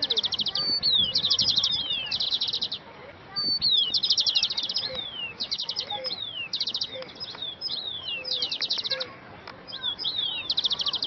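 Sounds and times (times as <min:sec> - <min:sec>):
songbirds rapid high notes: 0:00.0 - 0:11.0.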